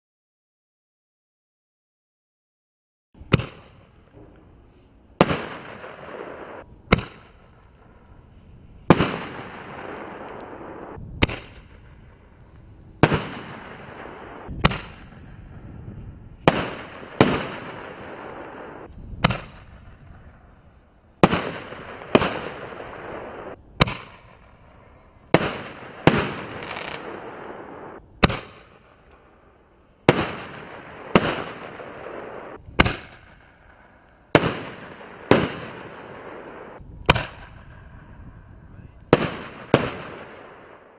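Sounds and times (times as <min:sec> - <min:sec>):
fireworks bangs: 0:03.2 - 0:40.9.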